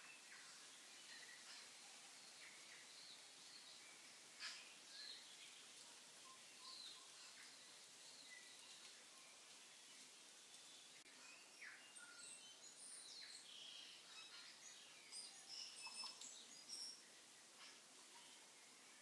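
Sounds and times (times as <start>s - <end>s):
faint high chirps: 0.0s - 19.0s
faint room hiss: 0.0s - 19.0s.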